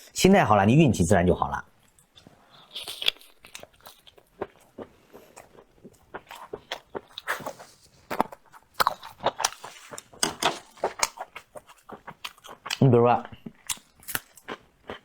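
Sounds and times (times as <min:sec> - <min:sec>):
person chewing and biting food: 0:01.8 - 0:12.8, 0:13.4 - 0:15.0.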